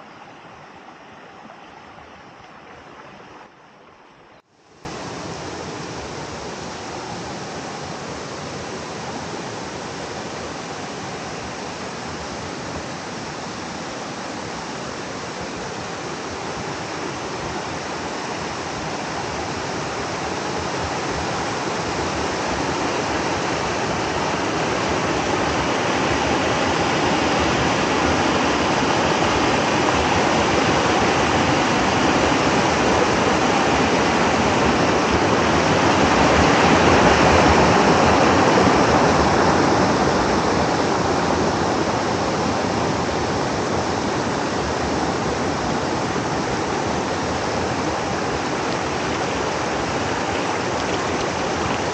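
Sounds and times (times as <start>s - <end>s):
water rushing over rocks: 0.0s - 51.9s.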